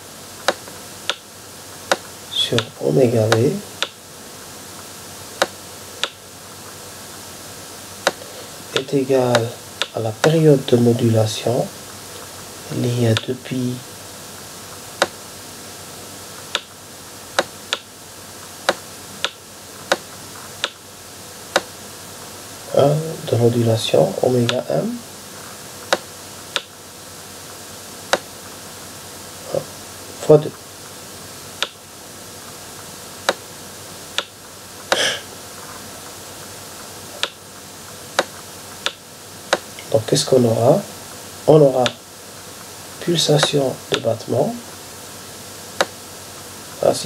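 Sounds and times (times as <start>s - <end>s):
faint hiss: 0.0s - 47.0s.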